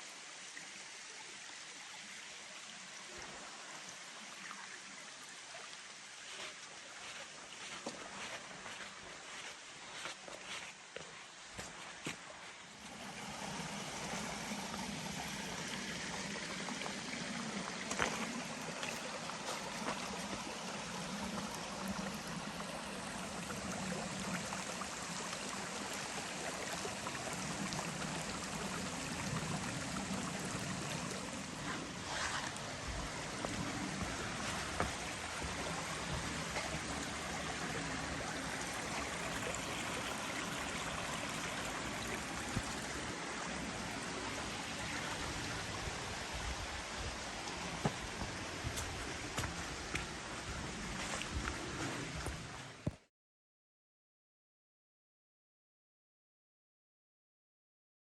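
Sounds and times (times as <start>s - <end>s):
stream running over rocks: 0.0s - 53.1s.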